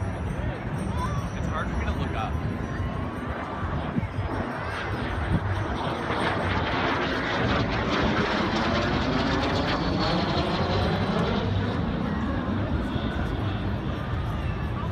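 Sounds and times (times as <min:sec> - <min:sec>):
jet engine passing overhead: 0:00.0 - 0:14.9.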